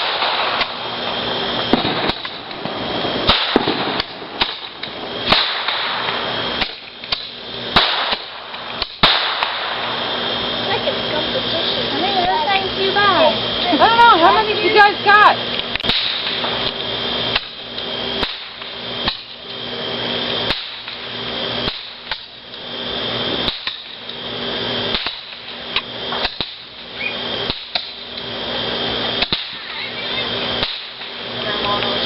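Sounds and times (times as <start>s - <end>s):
fireworks banging: 0.0s - 32.0s
fireworks hissing and crackling: 0.0s - 32.0s.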